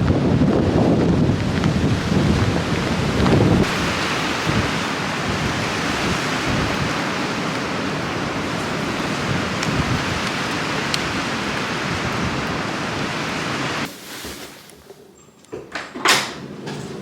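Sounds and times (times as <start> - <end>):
strong wind on microphone: 0.0 - 13.9.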